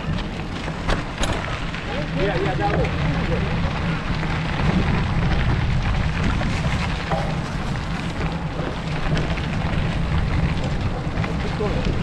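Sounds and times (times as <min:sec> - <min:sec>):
fine crackle: 0:00.0 - 0:12.0
wind buffeting microphone: 0:00.0 - 0:12.0.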